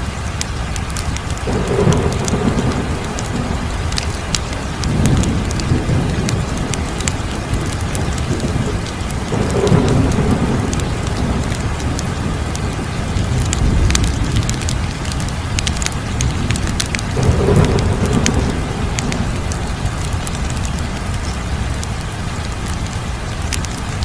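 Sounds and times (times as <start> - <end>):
low rumble of flames: 0.0 - 24.0
wood fire crackling and popping: 0.4 - 22.0, 23.5 - 24.0.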